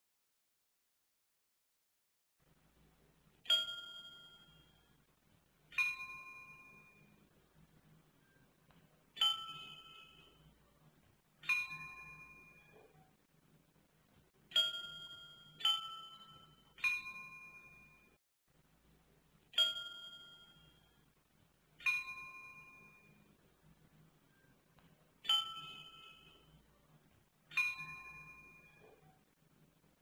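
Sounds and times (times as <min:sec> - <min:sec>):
faint low hum: 0:02.4 - 0:30.0.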